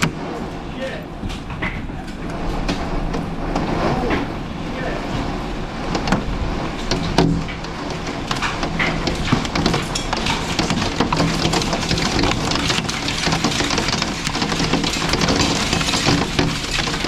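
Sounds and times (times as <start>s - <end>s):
debris striking window and walls: 0.0s - 17.0s
strong wind blowing: 0.0s - 17.0s.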